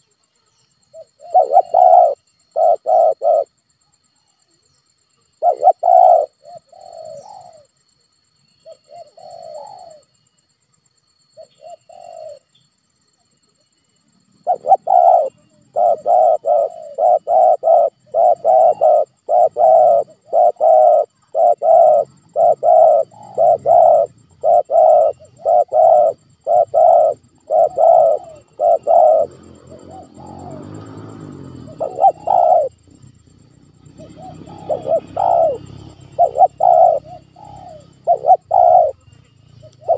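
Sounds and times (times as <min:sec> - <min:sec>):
dove cooing: 0:00.9 - 0:03.6, 0:05.4 - 0:07.7, 0:08.6 - 0:10.1, 0:11.4 - 0:12.5, 0:14.4 - 0:39.9.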